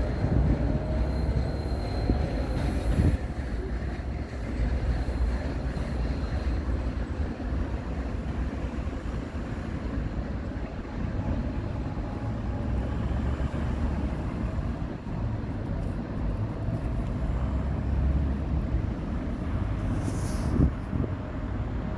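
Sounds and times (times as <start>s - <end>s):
city street traffic rumble: 0.0s - 21.9s.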